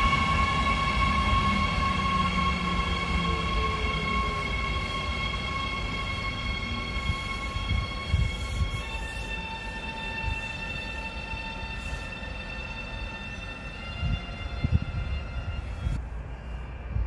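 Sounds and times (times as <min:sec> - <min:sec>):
electric locomotive whine: 0:00.0 - 0:17.0
wheels rumbling on rail: 0:00.0 - 0:17.0.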